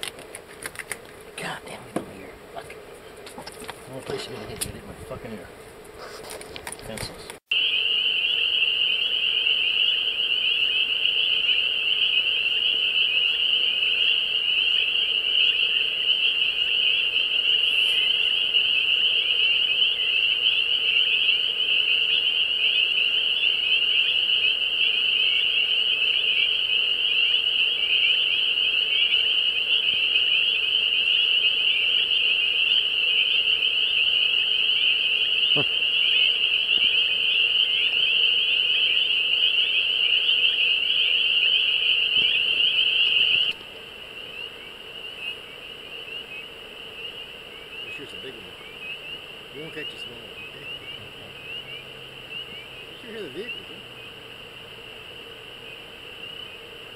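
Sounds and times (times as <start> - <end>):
chorus of frogs peeping: 0.0 - 56.9.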